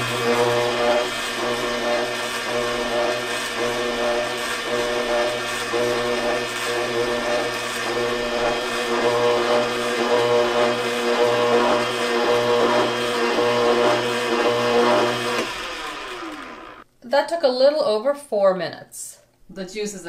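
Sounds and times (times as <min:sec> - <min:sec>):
juicer motor humming: 0:00.0 - 0:16.8.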